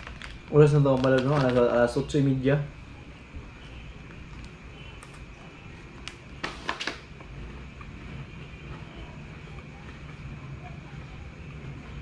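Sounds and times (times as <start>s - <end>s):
crackers and chips crackling: 0.0s - 10.6s
low background rumble: 0.0s - 12.0s.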